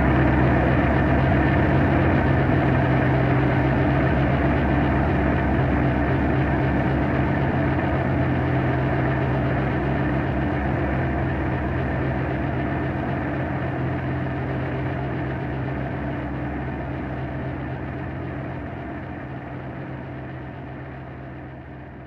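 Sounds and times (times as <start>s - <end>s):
dark ambient drone music: 0.0s - 21.6s.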